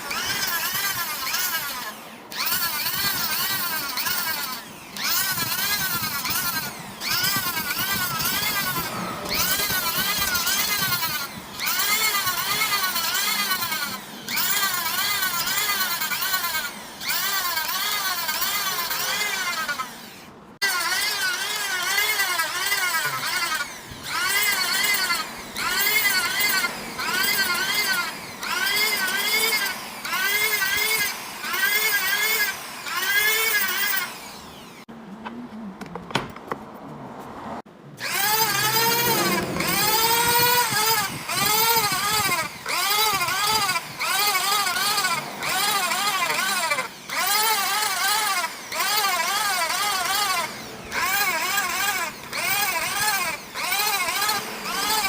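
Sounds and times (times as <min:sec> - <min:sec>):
power sander motor: 0:00.0 - 0:34.9, 0:38.0 - 0:55.0.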